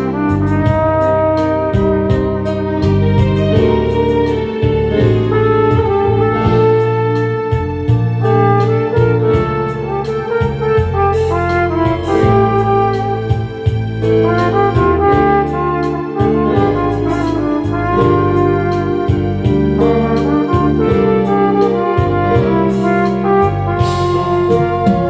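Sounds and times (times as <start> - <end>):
bass line: 0.0 - 25.0
flugelhorn slow melody: 0.0 - 25.0.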